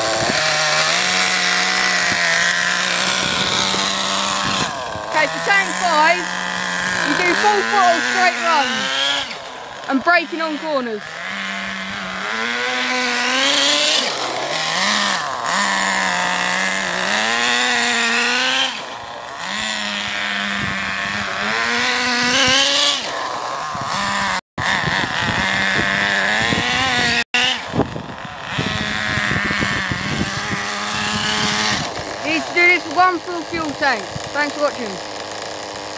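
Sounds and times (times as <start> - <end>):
rc car engine revving: 0.0 - 35.9.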